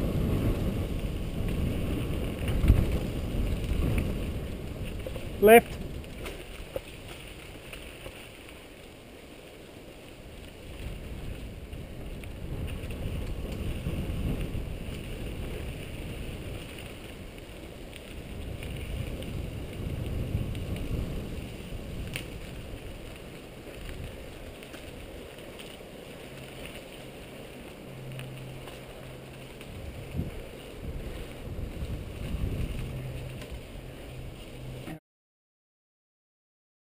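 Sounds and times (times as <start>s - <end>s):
wind rushing over microphone: 0.0s - 8.0s, 10.1s - 35.0s
bike rumbling and rattling on dirt: 0.0s - 35.0s.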